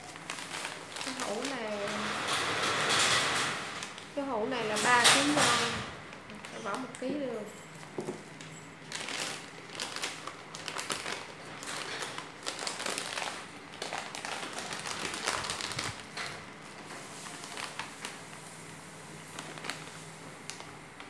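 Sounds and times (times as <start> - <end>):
plastic bag and gloves crinkling: 0.0 - 21.0.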